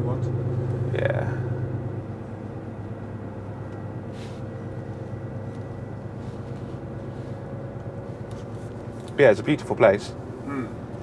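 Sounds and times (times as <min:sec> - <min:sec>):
truck engine hum from cab: 0:00.0 - 0:11.0.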